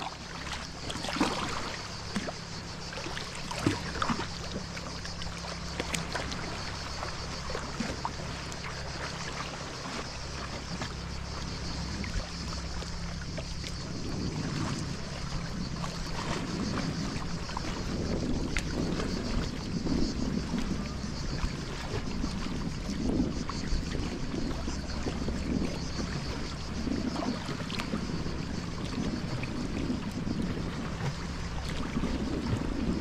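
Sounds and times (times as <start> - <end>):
paddle splashing water: 0.0 - 33.0.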